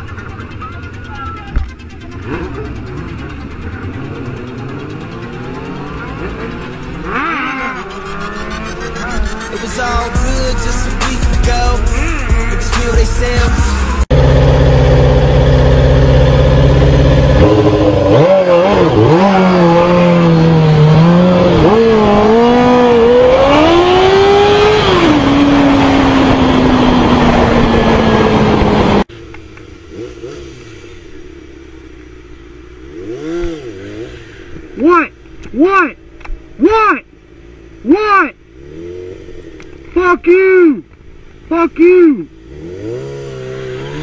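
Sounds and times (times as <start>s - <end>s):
motorcycle engine revving: 0.0s - 36.6s, 38.4s - 40.0s, 42.2s - 44.0s.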